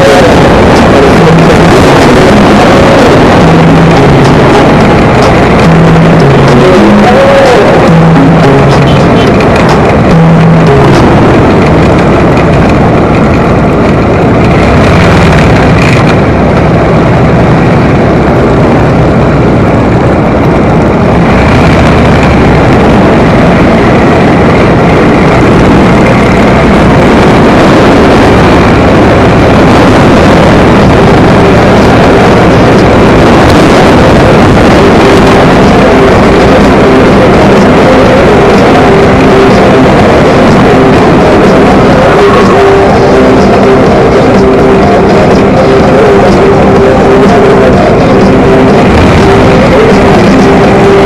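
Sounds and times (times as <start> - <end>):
motorcycle engine running: 0.0 - 51.0
wind and road noise: 0.0 - 51.0.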